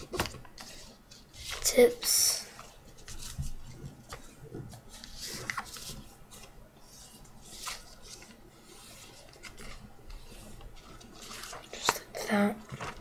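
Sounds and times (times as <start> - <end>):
paper being folded and creased: 0.0 - 13.0.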